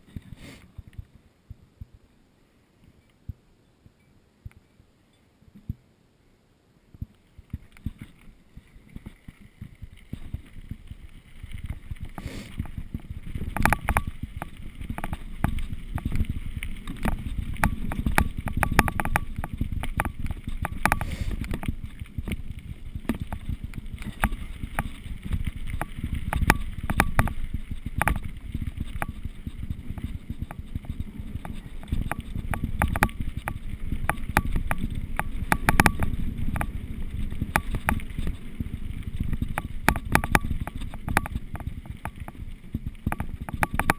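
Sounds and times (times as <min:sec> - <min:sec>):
wind buffeting microphone: 0:07.0 - 0:43.9
bike clicking and rattling: 0:07.5 - 0:43.9.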